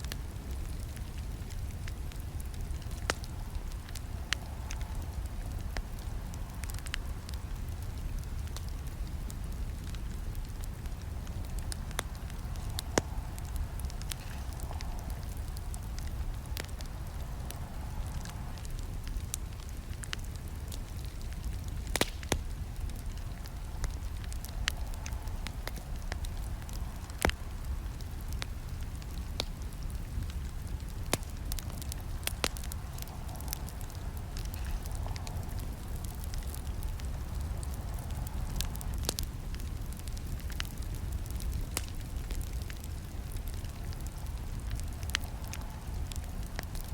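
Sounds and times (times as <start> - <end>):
campfire crackling: 0.0 - 46.9
loud pops of fire: 0.0 - 46.9
steady low rumble: 0.0 - 46.9.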